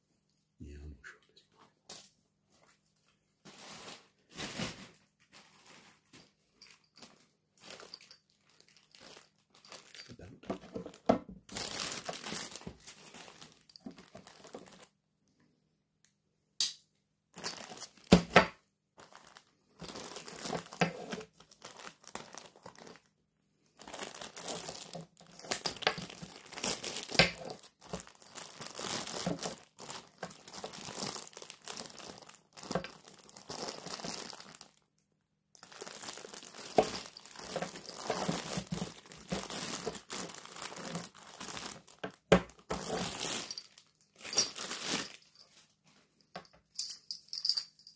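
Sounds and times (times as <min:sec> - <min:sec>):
plastic bags crinkling: 0:03.5 - 0:14.9, 0:17.4 - 0:23.1, 0:23.7 - 0:34.9, 0:35.5 - 0:47.9.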